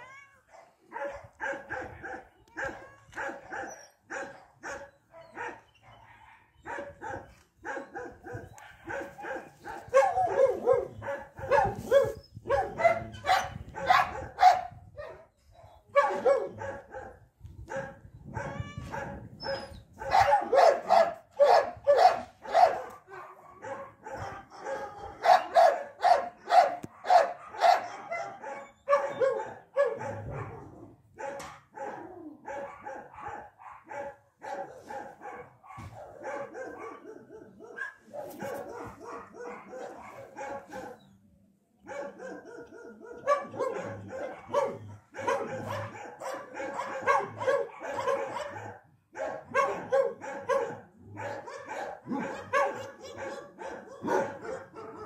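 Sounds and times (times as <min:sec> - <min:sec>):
dog barking: 0:00.5 - 0:15.3, 0:15.9 - 0:41.1, 0:41.8 - 0:55.0.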